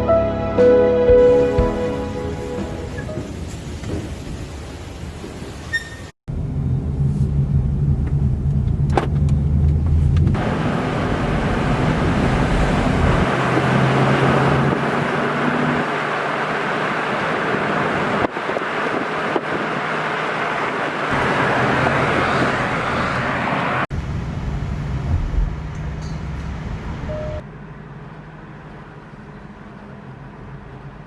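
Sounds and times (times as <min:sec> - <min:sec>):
vehicle and road noise: 0:02.2 - 0:31.0.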